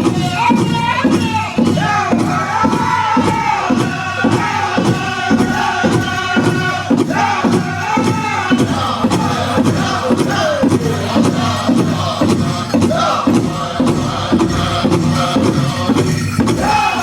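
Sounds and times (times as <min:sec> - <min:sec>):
big drum steady beat: 0:00.0 - 0:17.0
men singing in unison: 0:00.0 - 0:17.0.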